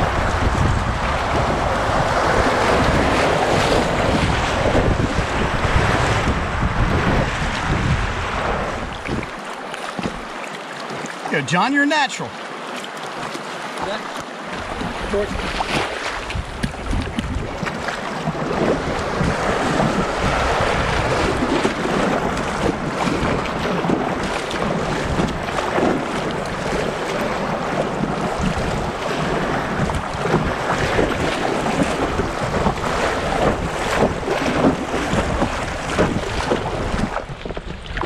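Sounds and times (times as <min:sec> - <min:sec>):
wind buffeting microphone: 0:00.0 - 0:09.4, 0:14.6 - 0:38.0
rushing whitewater: 0:00.0 - 0:38.0
water splashes: 0:00.0 - 0:38.0.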